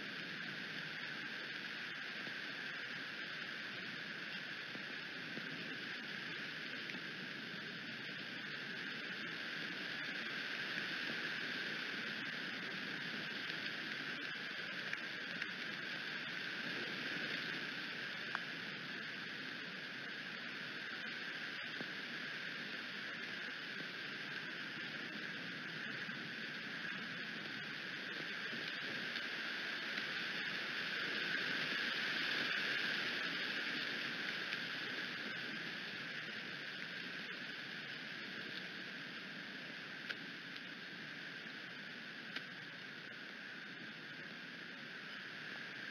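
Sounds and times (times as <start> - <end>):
faint ticks: 0.0 - 45.9
rain hissing: 0.0 - 45.9.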